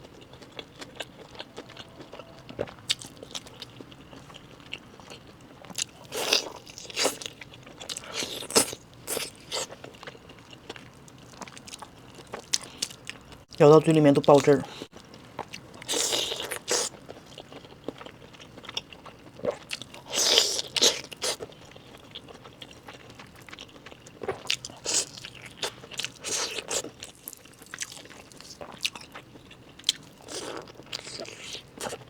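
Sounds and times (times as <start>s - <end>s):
chewing chicken leg: 0.0s - 13.5s, 14.3s - 32.0s.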